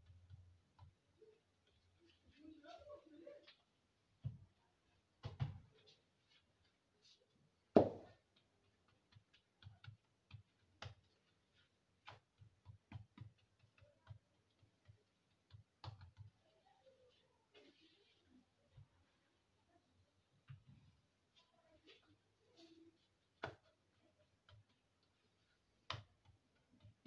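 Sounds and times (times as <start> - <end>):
hands patting dough on counter: 3.4 - 19.3, 20.4 - 27.0.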